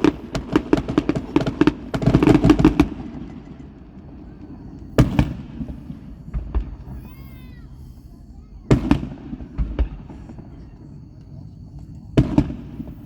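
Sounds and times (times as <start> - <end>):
fireworks crackling pops: 0.0 - 13.0
fireworks loud bang: 0.0 - 13.0.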